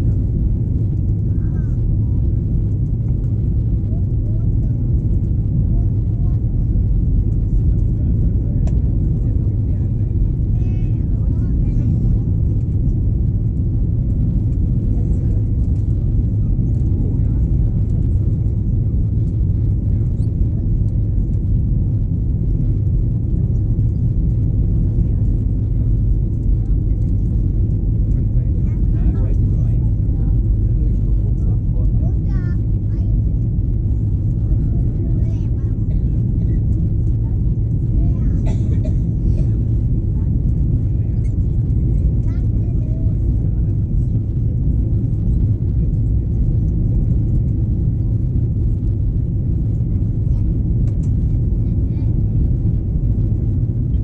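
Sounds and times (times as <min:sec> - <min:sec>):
airplane cabin rumble in flight: 0:00.0 - 0:54.0.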